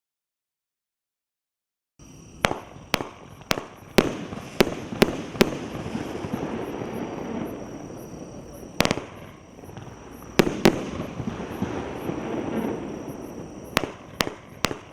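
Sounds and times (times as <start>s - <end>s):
firework crackling: 2.0s - 14.9s
firework bangs: 2.3s - 14.9s.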